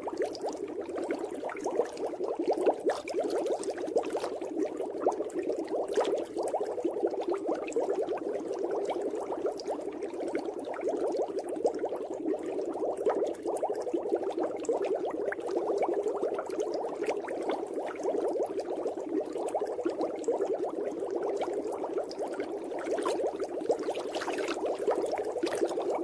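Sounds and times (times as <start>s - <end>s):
water bubbling: 0.0s - 26.0s.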